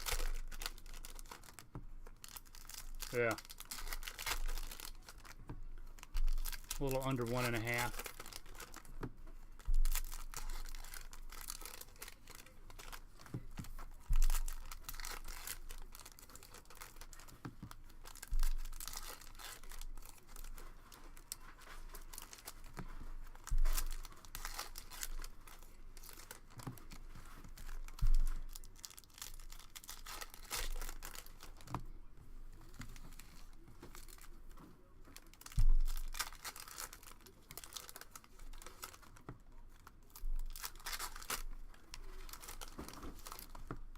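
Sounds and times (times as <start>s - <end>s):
foil wrappers tearing and crinkling: 0.0s - 8.9s, 9.6s - 31.7s, 35.2s - 43.9s.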